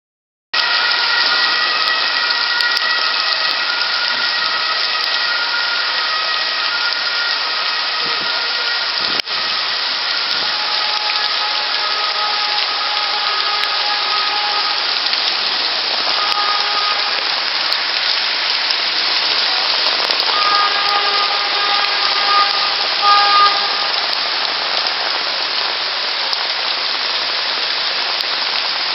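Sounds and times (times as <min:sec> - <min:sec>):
torrential rain pouring: 0:00.6 - 0:28.9.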